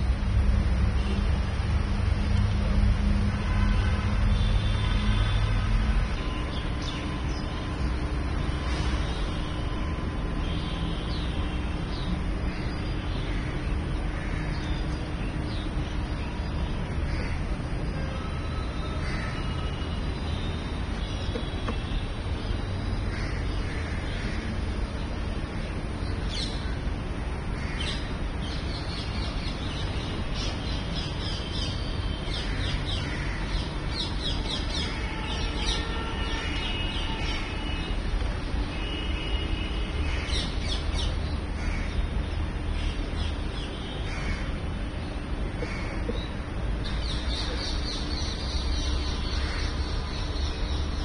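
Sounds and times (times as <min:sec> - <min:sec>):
birds chirping: 0:06.1 - 0:27.0, 0:27.6 - 0:51.0.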